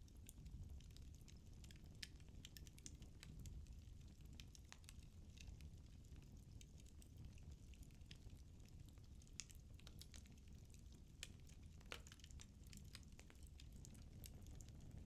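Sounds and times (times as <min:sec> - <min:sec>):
firewood crackling and popping: 0:00.1 - 0:15.0
low rumble of flames: 0:00.1 - 0:15.0.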